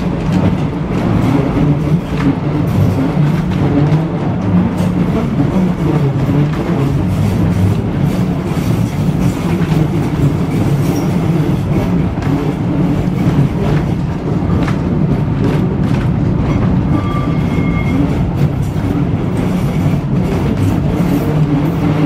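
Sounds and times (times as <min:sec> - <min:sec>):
tram rumbling along track: 0:00.0 - 0:22.0.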